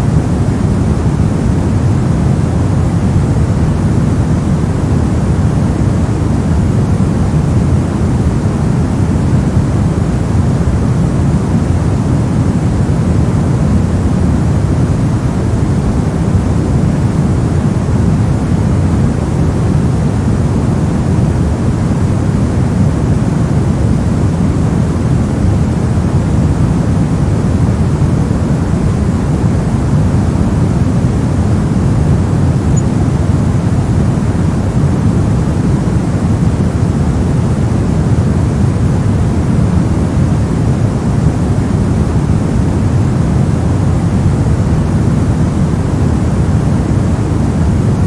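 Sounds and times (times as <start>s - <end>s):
deep white noise rush: 0.0s - 48.0s.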